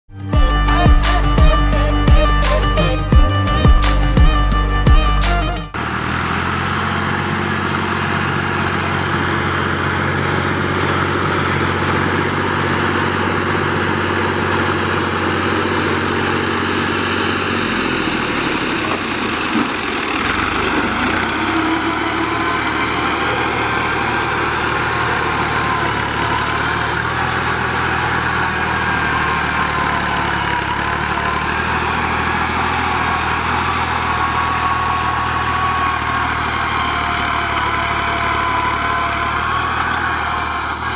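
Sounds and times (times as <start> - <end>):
tractor diesel engine under load: 0.1 - 40.9.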